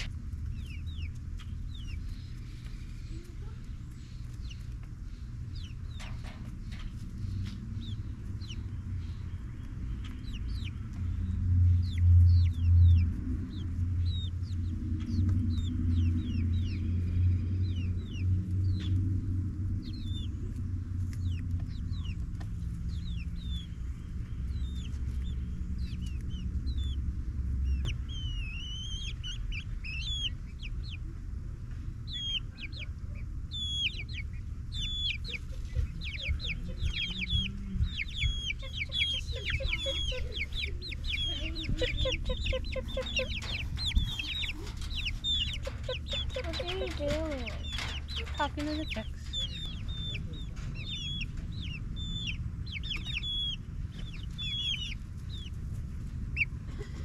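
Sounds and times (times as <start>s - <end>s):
chicks peeping and clucking: 0.0s - 57.0s
low rumble: 0.0s - 57.0s.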